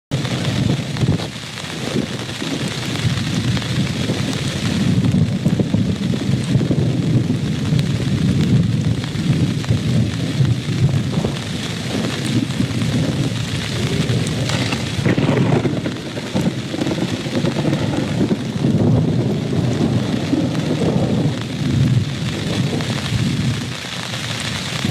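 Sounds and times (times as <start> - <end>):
steady rain: 0.1 - 24.9
low rumble of thunder: 0.2 - 23.8.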